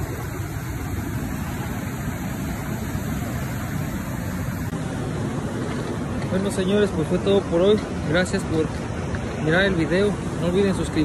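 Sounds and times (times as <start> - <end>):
river rushing through rapids: 0.0 - 11.0.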